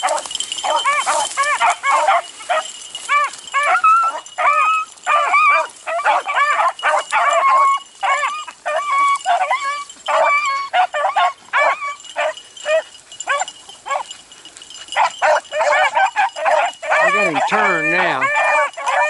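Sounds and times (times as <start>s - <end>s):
beagles baying: 0.0s - 19.0s.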